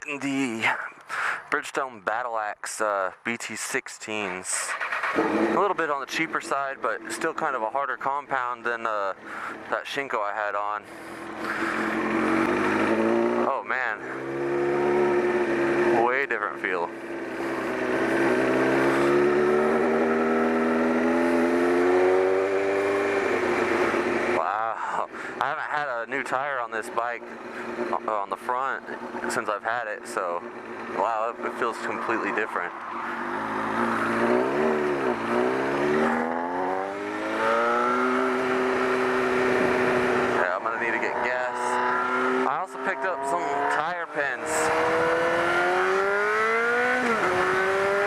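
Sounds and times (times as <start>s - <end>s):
motorcycle engine accelerating: 4.6s - 7.6s, 10.8s - 48.0s.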